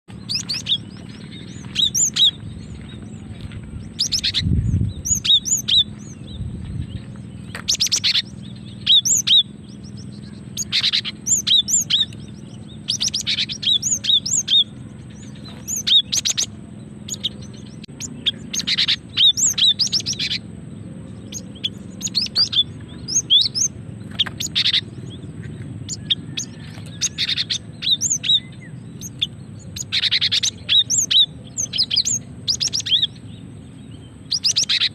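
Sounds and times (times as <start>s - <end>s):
bird giving high chirping calls: 0.1s - 20.5s, 21.1s - 34.9s.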